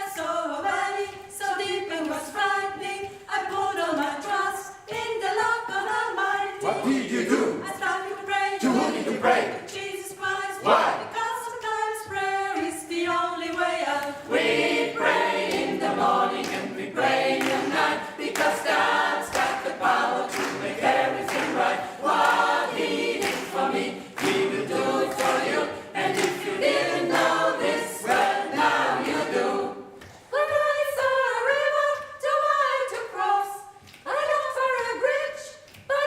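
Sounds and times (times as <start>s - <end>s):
gospel choir singing: 0.0s - 36.0s.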